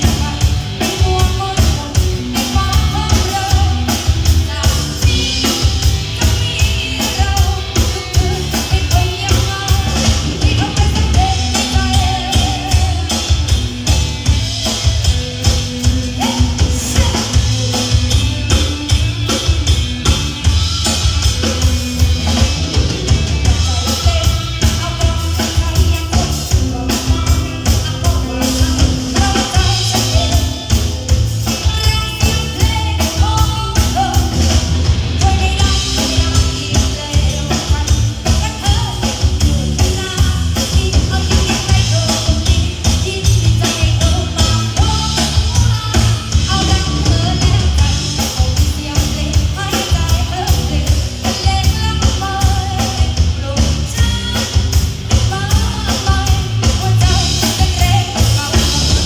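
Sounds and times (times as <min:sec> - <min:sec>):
person singing: 0:00.0 - 0:20.3, 0:23.4 - 0:59.0
live band music: 0:00.0 - 0:59.0.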